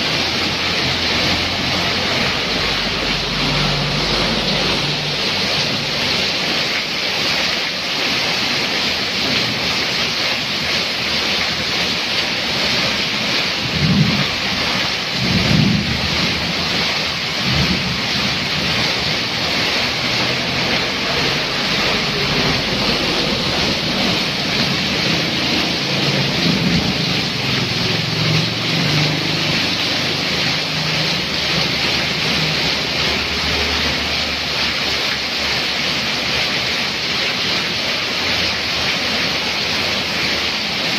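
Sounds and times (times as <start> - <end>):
heavy rain on road and roof: 0.0 - 40.9
water pouring off eaves: 0.0 - 40.9.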